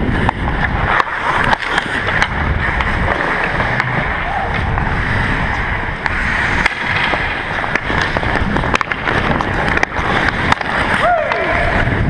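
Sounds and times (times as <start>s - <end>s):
hockey sticks and puck clacking: 0.0s - 12.0s
low wind rumble: 0.0s - 12.0s
skates scraping on ice: 0.0s - 12.0s.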